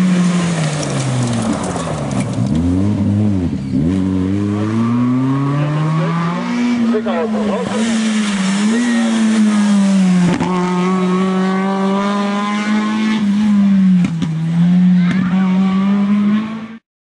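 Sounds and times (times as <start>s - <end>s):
rally car engine at high revs: 0.0s - 16.8s.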